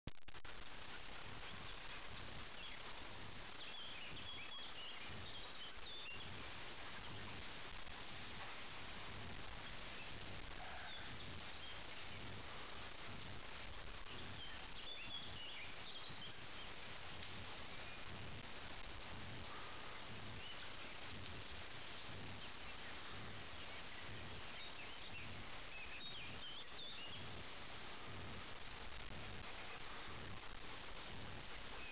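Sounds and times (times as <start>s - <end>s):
steady hiss: 0.2s - 31.9s
insects chirring: 0.3s - 31.9s.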